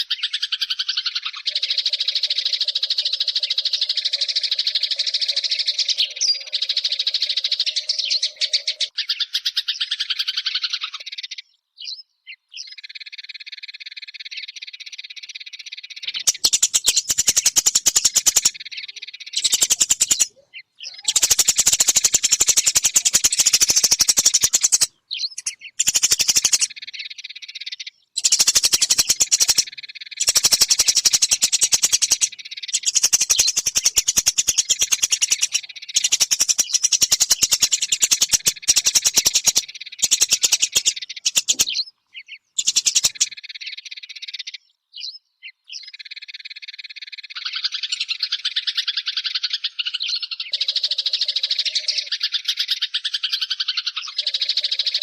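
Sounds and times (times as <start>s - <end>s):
sparrow chirping: 0.0s - 55.0s.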